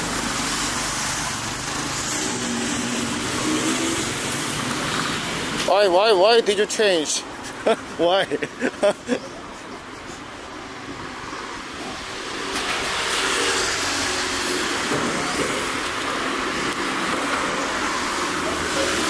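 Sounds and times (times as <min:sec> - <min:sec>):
passing vehicles rushing: 0:00.0 - 0:19.0.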